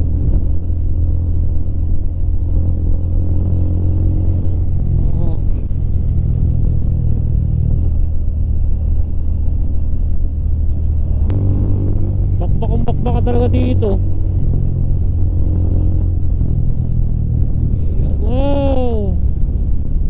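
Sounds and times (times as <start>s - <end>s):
motorcycle running: 0.0s - 20.0s
wind and road rumble: 0.0s - 20.0s.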